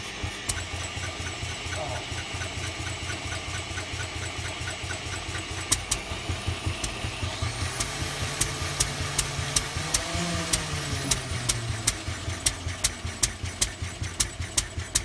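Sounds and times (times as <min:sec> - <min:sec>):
engine cranking chugging: 0:00.0 - 0:15.0.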